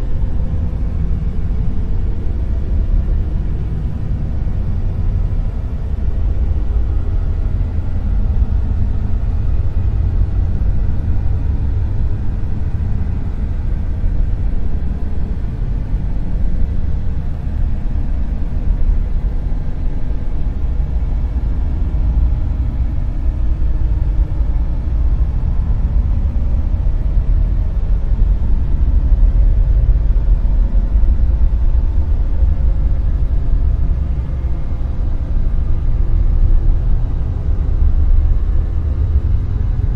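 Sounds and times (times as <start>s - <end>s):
deep rumbling hiss: 0.0s - 39.9s.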